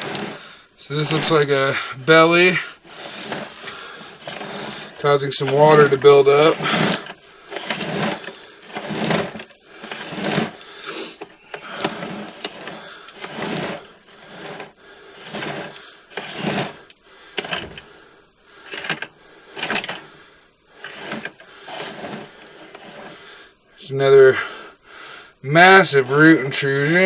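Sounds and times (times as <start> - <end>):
cable scraping and clattering in pipe: 0.0 - 23.4.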